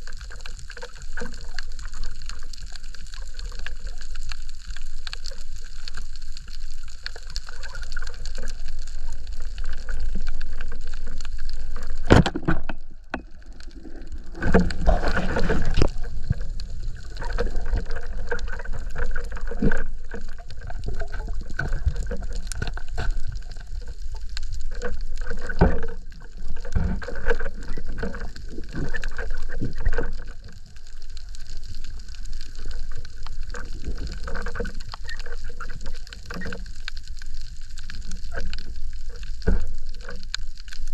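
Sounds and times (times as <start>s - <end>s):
clicks and crackles: 0.0s - 40.9s
water rushing and gurgling: 0.0s - 40.9s.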